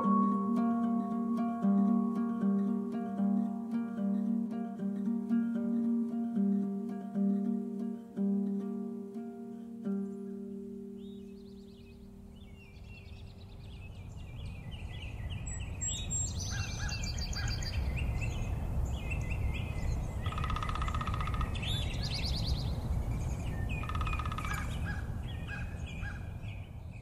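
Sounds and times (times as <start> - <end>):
songbirds chirping and trilling: 0.0 - 27.0.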